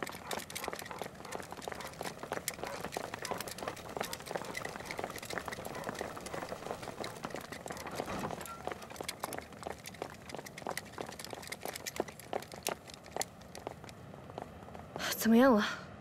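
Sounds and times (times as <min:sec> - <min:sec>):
footsteps of people running: 0:00.0 - 0:15.0.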